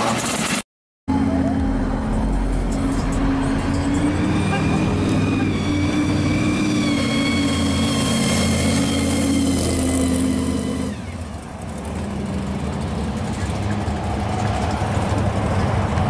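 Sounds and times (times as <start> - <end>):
supercharger whine: 1.1 - 14.6
car engine driving by: 1.1 - 16.0.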